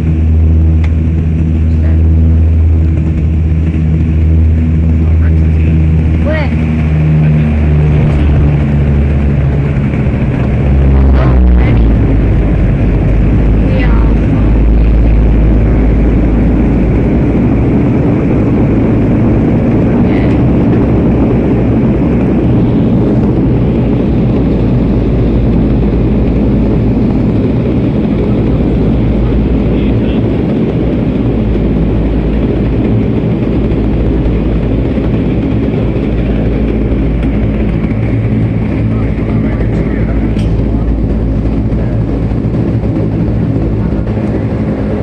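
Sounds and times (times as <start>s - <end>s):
turboprop cabin drone: 0.0s - 45.0s.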